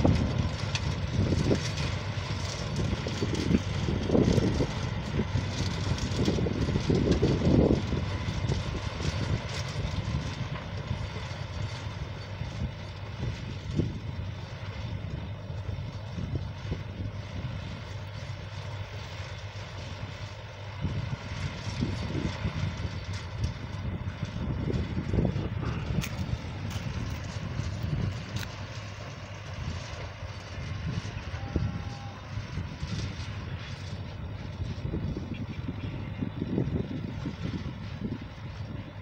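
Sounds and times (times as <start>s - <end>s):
small tractor engine running: 0.0s - 39.0s.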